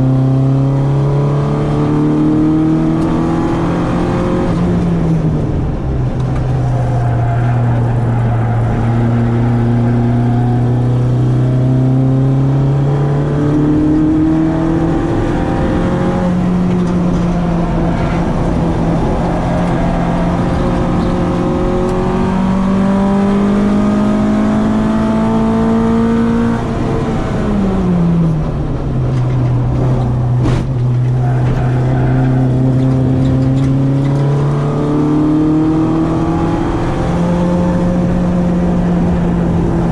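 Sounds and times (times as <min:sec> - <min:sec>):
car engine revving through gear changes: 0:00.0 - 0:39.9.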